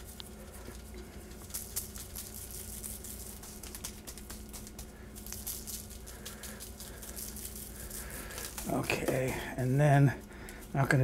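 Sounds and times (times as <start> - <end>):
spice shaker rattling: 0.0 - 9.4
steady low hum: 0.0 - 11.0.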